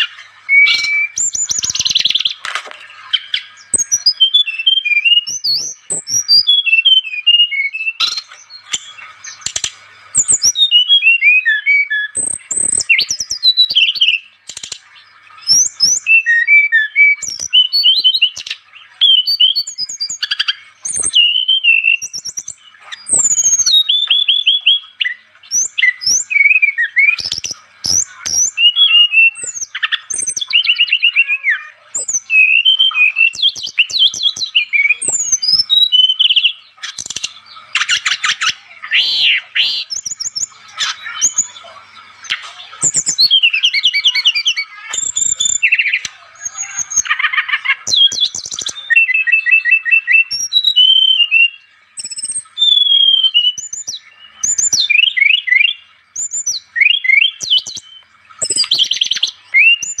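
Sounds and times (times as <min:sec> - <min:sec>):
bird singing whistles and trills: 0:00.0 - 1:00.0.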